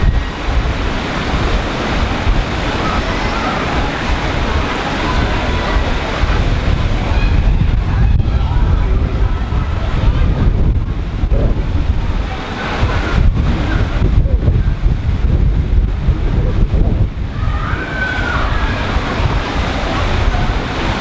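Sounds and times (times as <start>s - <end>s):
faint voices: 0.0s - 21.0s
wind buffeting microphone: 0.0s - 21.0s.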